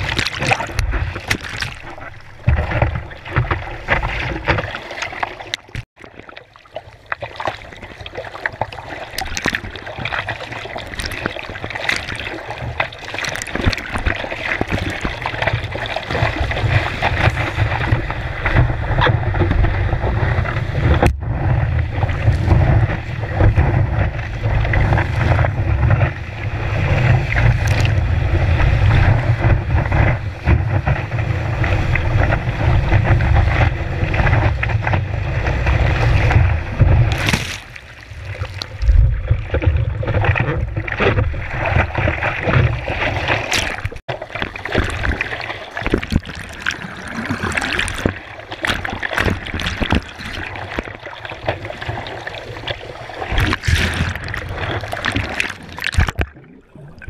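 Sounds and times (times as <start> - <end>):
water rushing over surfboard: 0.0 - 57.0.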